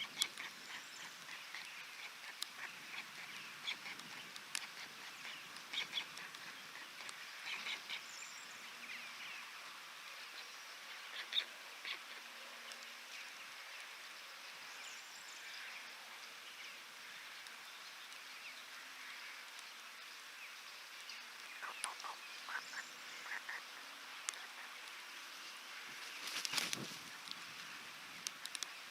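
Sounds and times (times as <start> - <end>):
birds chirping: 0.0 - 9.6, 14.6 - 28.9.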